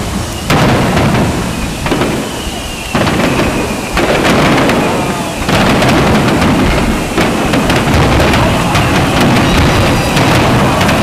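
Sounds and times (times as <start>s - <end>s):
firework crackling: 0.0s - 11.0s
firework shells bursting: 0.0s - 11.0s.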